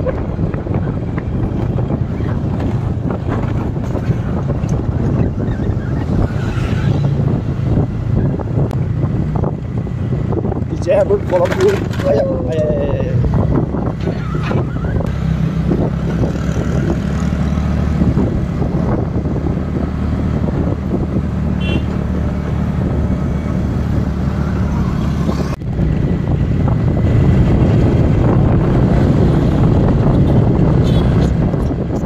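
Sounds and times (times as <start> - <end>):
motor scooter engine hum: 0.0 - 32.0
wind and road noise: 0.0 - 32.0.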